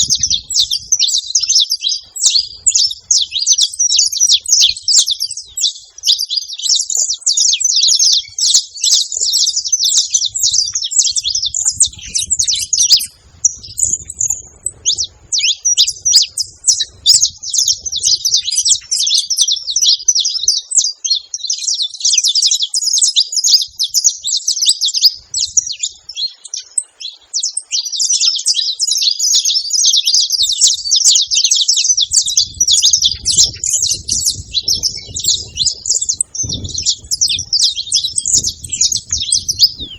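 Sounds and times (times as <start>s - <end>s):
finches chirping and singing: 0.0s - 39.9s.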